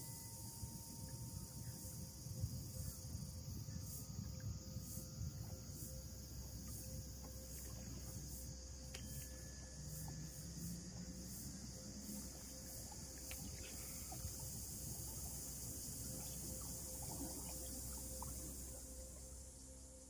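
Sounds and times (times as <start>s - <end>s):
insects chorus: 0.0s - 20.0s.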